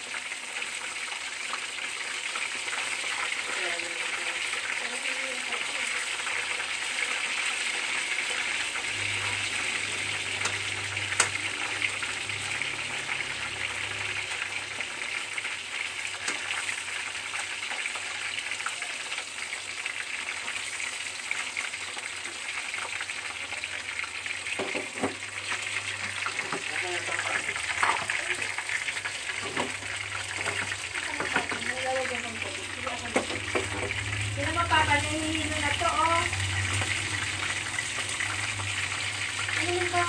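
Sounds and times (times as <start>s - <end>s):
chicken sizzling in hot oil: 0.0s - 40.0s.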